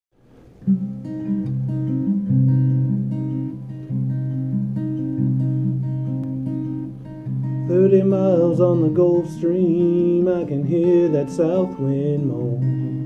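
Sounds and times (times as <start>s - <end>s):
acoustic guitar strumming chords: 0.2s - 13.0s.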